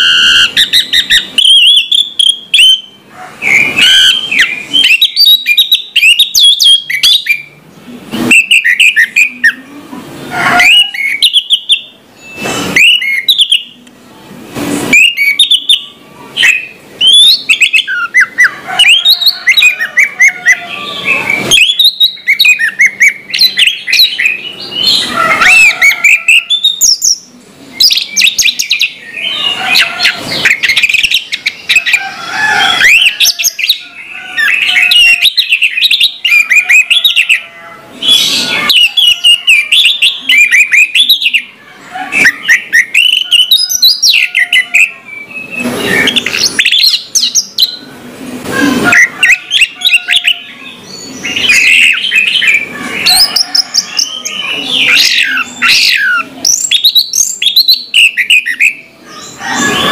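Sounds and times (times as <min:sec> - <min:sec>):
thrush singing whistled song: 0:00.0 - 0:07.6, 0:08.2 - 0:09.6, 0:10.6 - 0:13.8, 0:14.9 - 0:32.0, 0:32.7 - 0:41.5, 0:42.2 - 0:47.9, 0:48.9 - 0:58.9.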